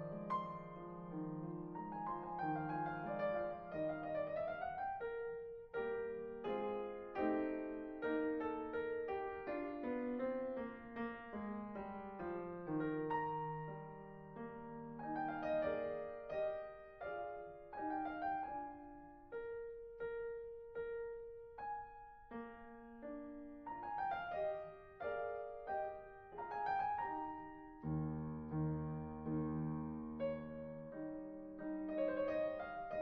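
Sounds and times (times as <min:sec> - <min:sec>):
slow piano melody: 0:00.0 - 0:33.0.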